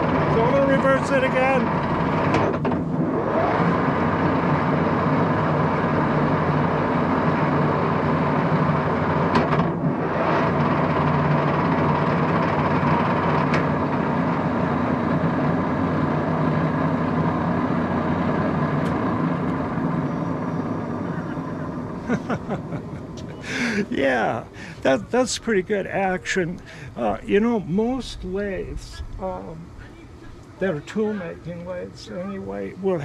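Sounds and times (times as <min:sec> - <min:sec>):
lathe gear whine and hum: 0:00.0 - 0:33.0.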